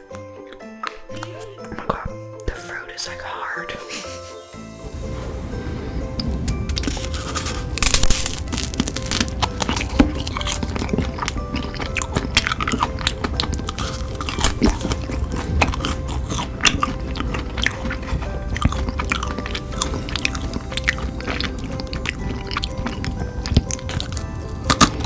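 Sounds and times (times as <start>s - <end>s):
background music: 0.0s - 25.0s
person chewing crunchy food: 4.8s - 25.0s.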